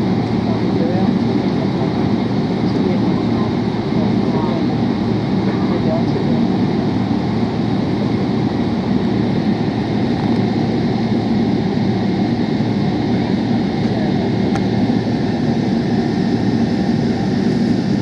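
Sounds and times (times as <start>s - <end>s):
airplane cabin engine and air noise: 0.0s - 18.0s.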